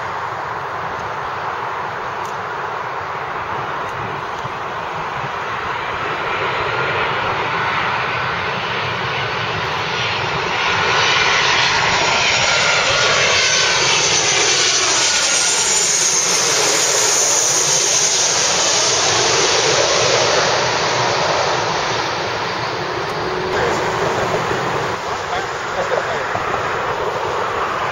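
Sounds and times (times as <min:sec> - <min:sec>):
jet engines passing overhead: 0:00.0 - 0:27.9.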